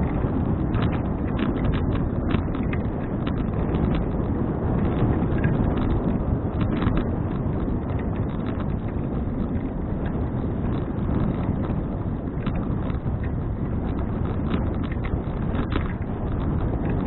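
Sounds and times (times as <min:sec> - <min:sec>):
faint ticks: 0:00.0 - 0:17.0
wind buffeting microphone: 0:00.0 - 0:17.0.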